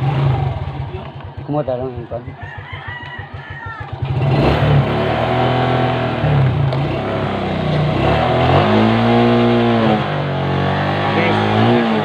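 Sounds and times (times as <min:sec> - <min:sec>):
scooter engine starting and revving: 0:00.0 - 0:12.0.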